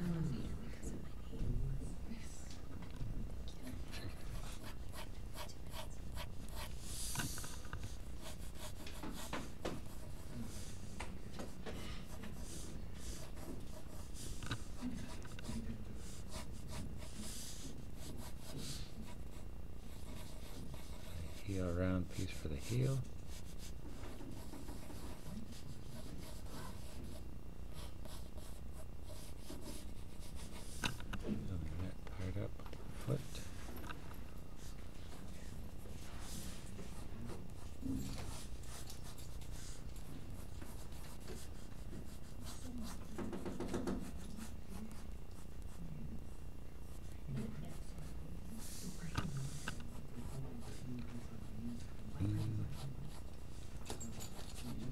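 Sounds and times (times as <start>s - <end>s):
low background hum: 0.0s - 54.9s
pencil scratching on paper: 3.7s - 31.0s, 34.6s - 45.8s, 46.8s - 51.2s, 51.8s - 53.4s, 54.1s - 54.9s.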